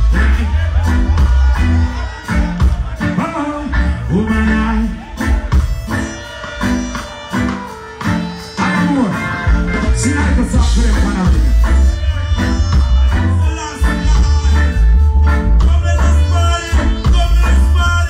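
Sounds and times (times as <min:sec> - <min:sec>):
heavy bass line: 0:00.0 - 0:18.0
live reggae band: 0:00.0 - 0:18.0.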